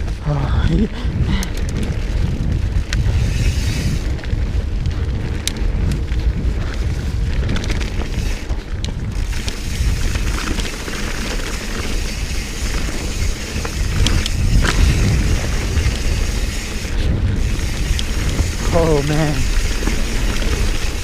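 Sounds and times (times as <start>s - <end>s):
bike rattling: 0.0s - 21.0s
wind buffeting microphone: 0.0s - 21.0s
tyres rolling over dirt: 1.5s - 21.0s.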